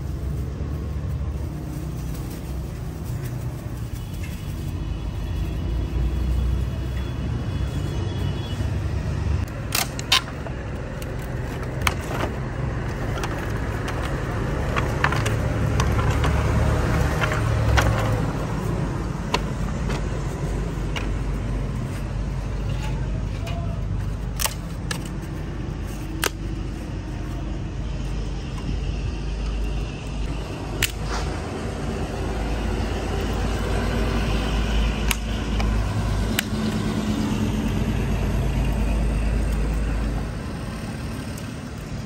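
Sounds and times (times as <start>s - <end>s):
low rumble of road traffic: 0.0s - 42.0s.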